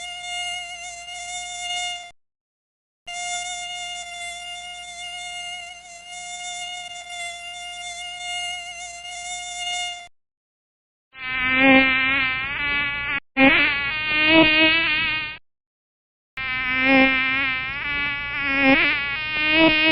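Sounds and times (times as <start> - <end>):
mosquito wing whine: 0.0 - 2.1, 3.1 - 10.1, 11.2 - 15.4, 16.4 - 19.9.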